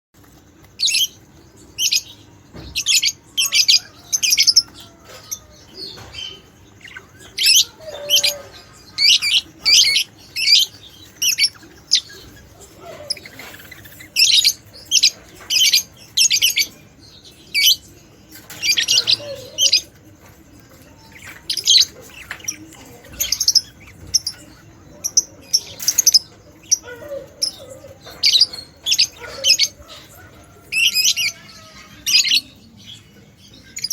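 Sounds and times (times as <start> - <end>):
budgerigars chirping: 0.7 - 33.9.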